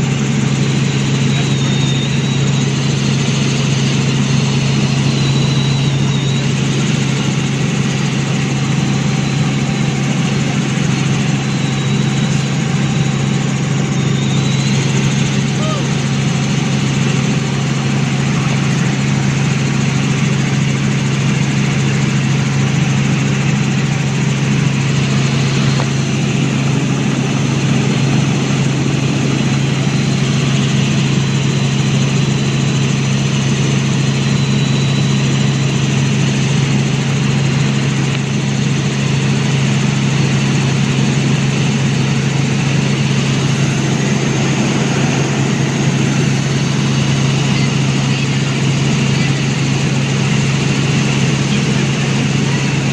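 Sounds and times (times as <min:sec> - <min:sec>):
helicopter drone: 0:00.0 - 0:52.9.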